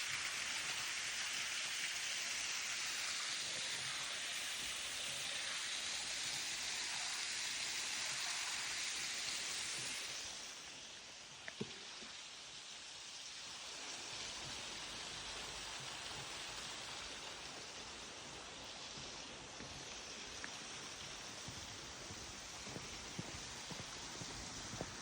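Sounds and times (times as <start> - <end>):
water falling: 0.0 - 25.0.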